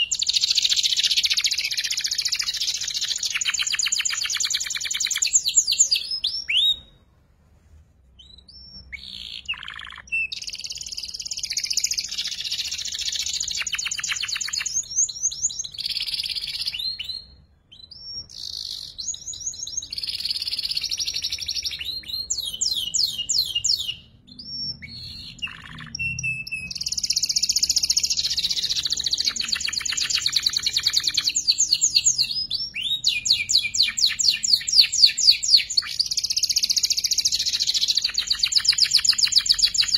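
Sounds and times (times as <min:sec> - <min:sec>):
canary twittering: 0:00.0 - 0:06.9, 0:08.2 - 0:39.9.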